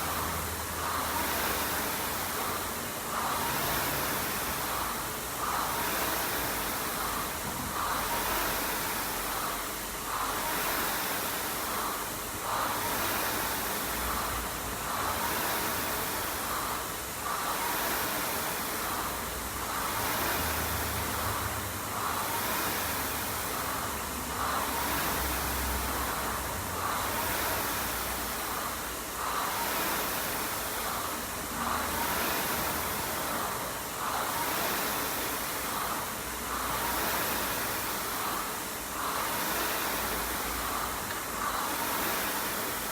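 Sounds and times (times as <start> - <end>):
rowing machine fan whirring: 0.0 - 42.9.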